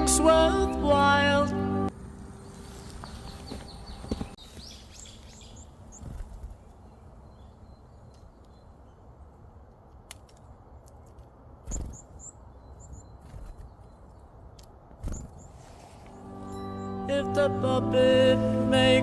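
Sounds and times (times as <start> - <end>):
small birds chirping: 0.0 - 17.1.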